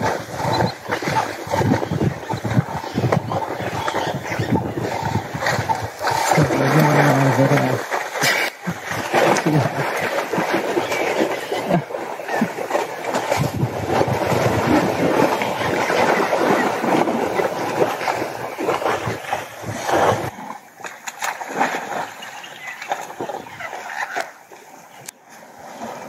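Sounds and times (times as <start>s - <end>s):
mud and water sloshing: 0.0s - 26.0s.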